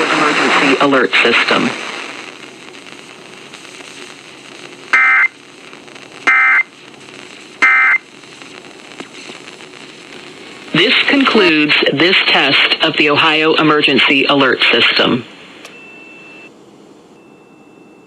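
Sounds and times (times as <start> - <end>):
faint broadcast hiss: 0.0 - 17.2.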